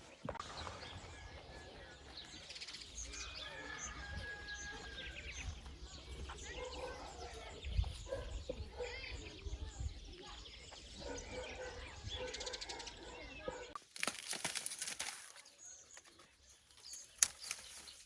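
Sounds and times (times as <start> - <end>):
songbirds singing and chirping: 0.0 - 18.0.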